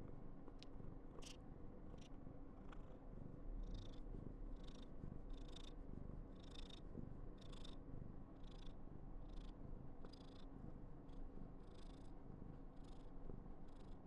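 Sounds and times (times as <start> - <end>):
cat purring: 2.7 - 14.0.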